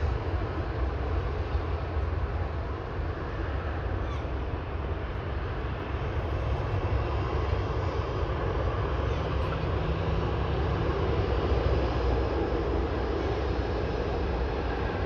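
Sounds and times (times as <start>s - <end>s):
airliner engines rumbling: 0.0s - 15.0s.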